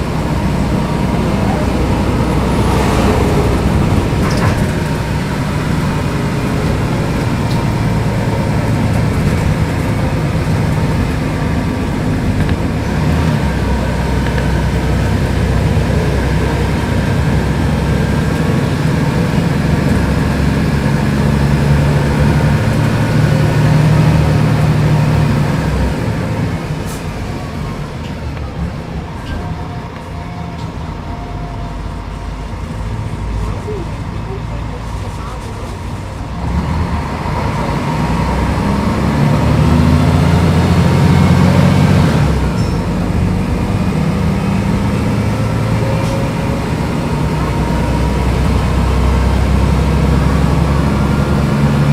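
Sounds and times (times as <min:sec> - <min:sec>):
bus diesel engine humming: 0:00.0 - 0:51.9
road noise: 0:00.0 - 0:51.9.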